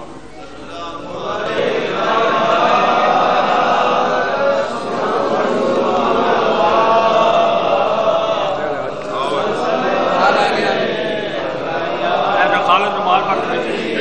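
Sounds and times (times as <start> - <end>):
men chanting together: 0.5 - 14.0.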